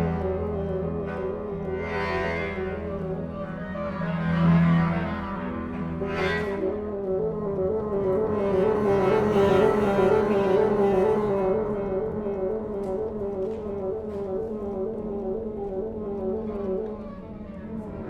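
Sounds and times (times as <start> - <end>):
chamber music with solo bassoon: 0.0 - 18.0.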